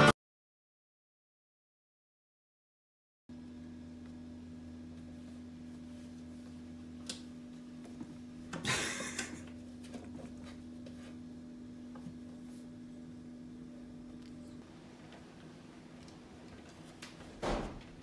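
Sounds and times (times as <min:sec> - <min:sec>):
steady low hum: 0:03.3 - 0:18.0.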